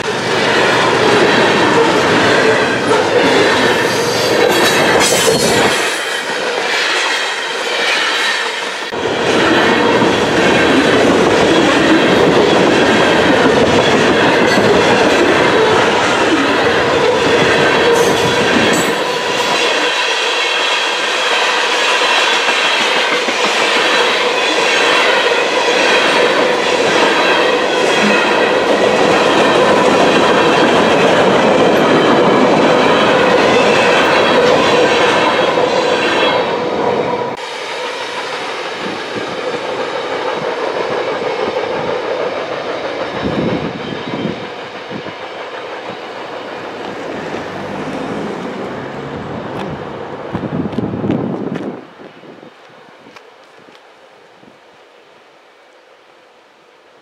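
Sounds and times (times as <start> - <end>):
freight train wheels rumbling and clattering: 0.0 - 53.9.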